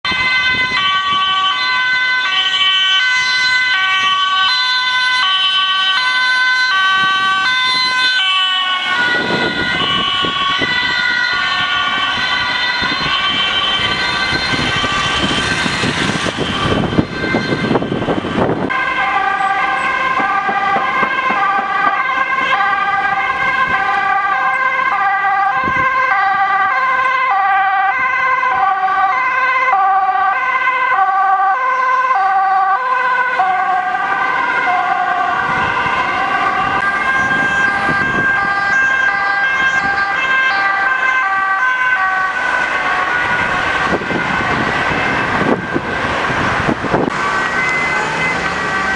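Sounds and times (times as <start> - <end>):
passing traffic: 0.0 - 48.9
two-tone siren: 0.0 - 48.9.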